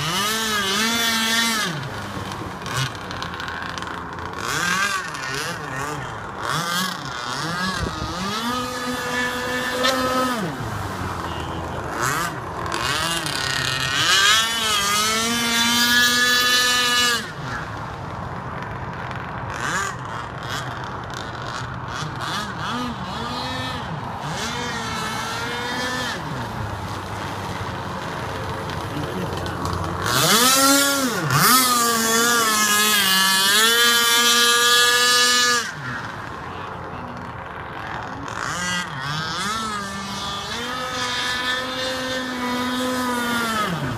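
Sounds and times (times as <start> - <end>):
model boat engine revving: 0.0 - 43.9.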